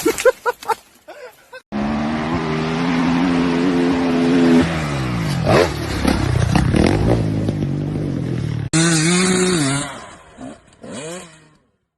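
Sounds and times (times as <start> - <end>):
dirt bike engine revving: 1.7 - 11.7.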